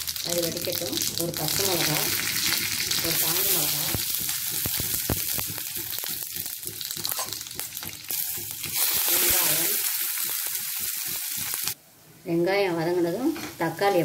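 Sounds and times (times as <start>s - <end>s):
onions dropping into oil: 0.0s - 11.6s
food sizzling in hot oil: 0.0s - 11.8s.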